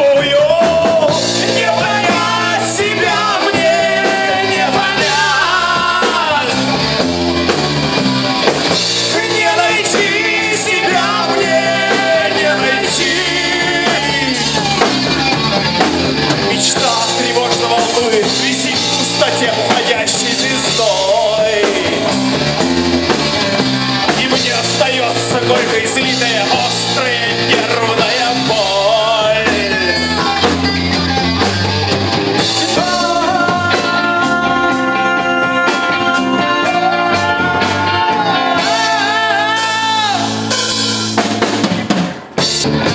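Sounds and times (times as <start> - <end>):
person singing lead vocals: 0.0 - 41.5
drum beat: 0.0 - 42.9
rock band playing: 0.0 - 42.9.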